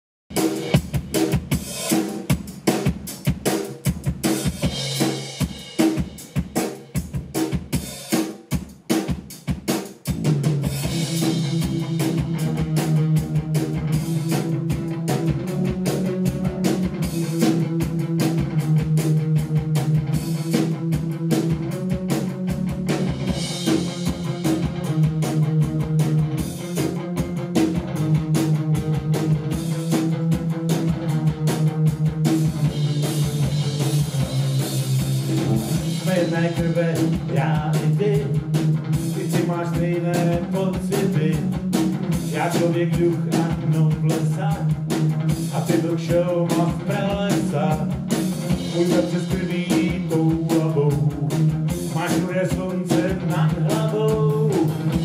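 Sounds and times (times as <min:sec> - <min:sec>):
drum kit: 0:00.3 - 0:55.0
electric guitar: 0:10.1 - 0:55.0.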